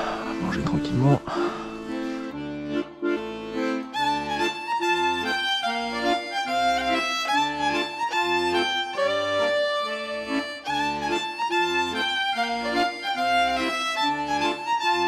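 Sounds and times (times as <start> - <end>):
fiddle music: 0.0 - 15.0.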